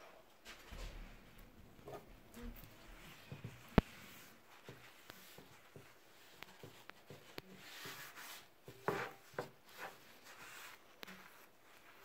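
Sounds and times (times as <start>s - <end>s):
cloth swishing on wood: 1.9s - 12.0s.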